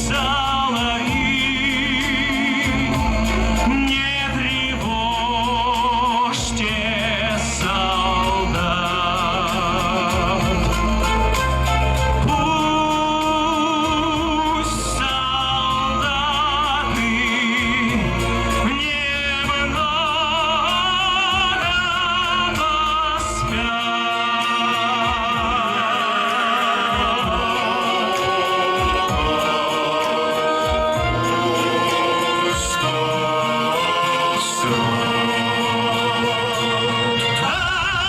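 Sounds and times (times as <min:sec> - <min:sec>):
high voice singing with vibrato: 0:00.0 - 0:38.0
instrumental backing: 0:00.0 - 0:38.0.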